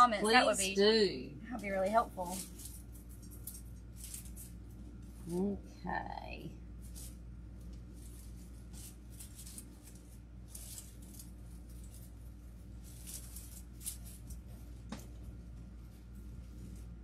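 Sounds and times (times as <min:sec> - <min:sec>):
artificial grass rustling: 0:00.0 - 0:05.5, 0:06.3 - 0:17.0
steady low hum: 0:00.0 - 0:17.0.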